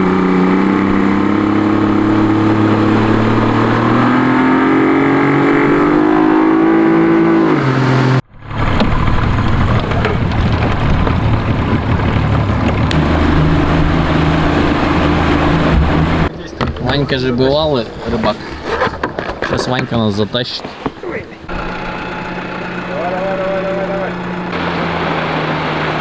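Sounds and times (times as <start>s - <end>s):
outboard motor running: 0.0s - 26.0s
water sound: 0.0s - 26.0s.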